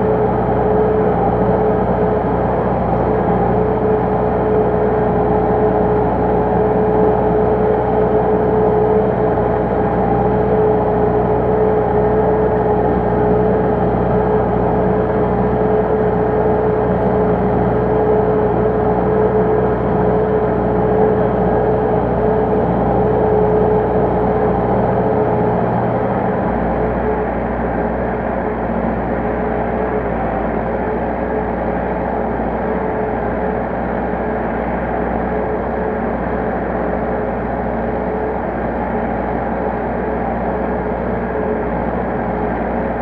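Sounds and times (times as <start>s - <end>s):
steady whine: 0.0s - 43.0s
tractor diesel engine running: 0.0s - 43.0s.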